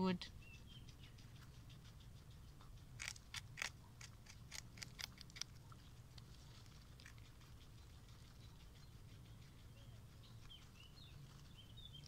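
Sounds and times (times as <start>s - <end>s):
guinea pig crunching vegetable: 0.4s - 12.0s.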